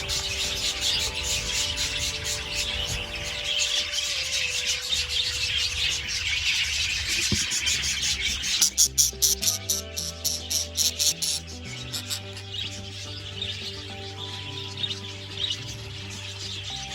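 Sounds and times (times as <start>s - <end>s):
budgerigars chattering: 0.0s - 16.9s.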